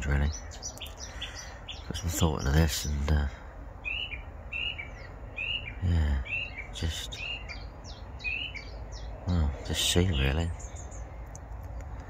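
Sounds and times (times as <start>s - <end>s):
songbird high chirps: 0.0s - 12.0s.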